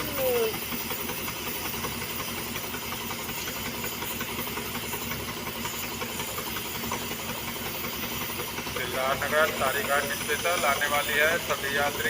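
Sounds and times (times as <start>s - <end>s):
train running heard on board: 0.0s - 12.0s.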